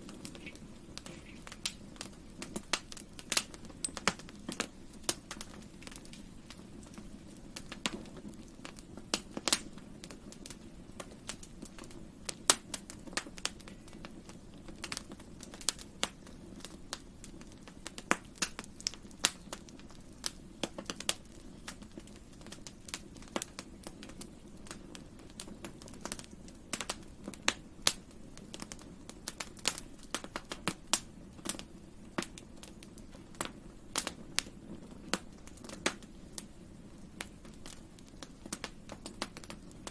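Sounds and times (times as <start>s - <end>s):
low rush of flames: 0.0s - 39.9s
wood fire crackling and popping: 0.0s - 39.9s.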